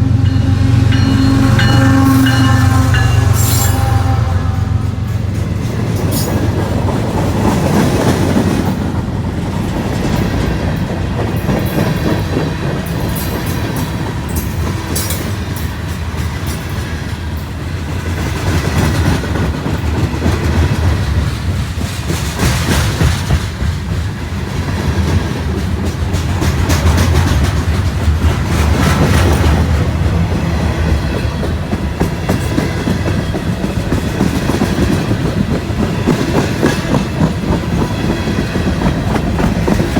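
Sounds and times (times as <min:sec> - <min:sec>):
freight train cars rolling: 0:00.0 - 0:39.9
wheels clicking over rail joints: 0:05.2 - 0:39.9.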